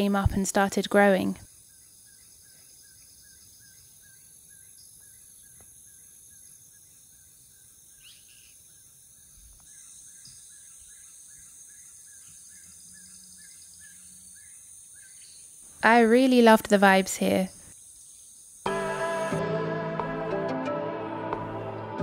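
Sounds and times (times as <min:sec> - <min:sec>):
high insect drone: 0:01.1 - 0:19.6.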